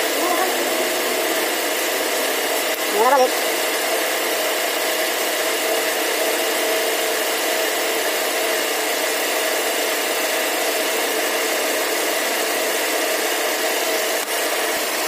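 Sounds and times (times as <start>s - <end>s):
car engine running: 0.0s - 15.0s
electric radiator fan blowing: 0.0s - 15.0s.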